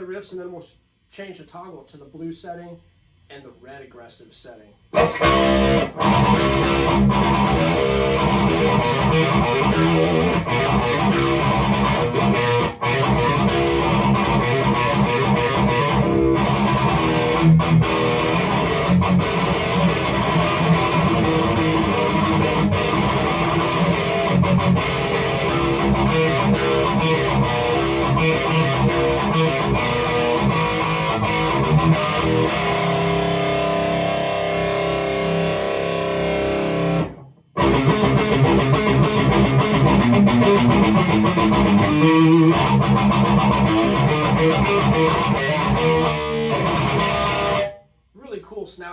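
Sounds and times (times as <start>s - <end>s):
distorted electric guitar riffs: 4.9s - 47.8s.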